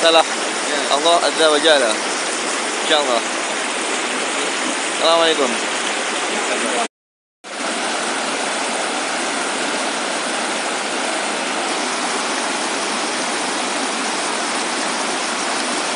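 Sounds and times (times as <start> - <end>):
stream rushing over rocks: 0.0 - 6.9, 7.5 - 15.9.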